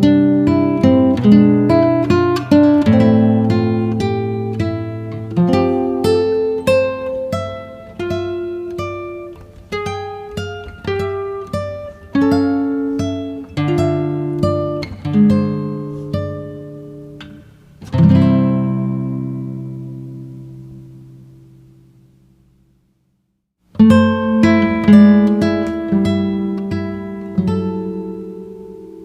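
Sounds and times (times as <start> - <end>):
slow acoustic guitar piece: 0.0 - 22.9, 23.6 - 29.0.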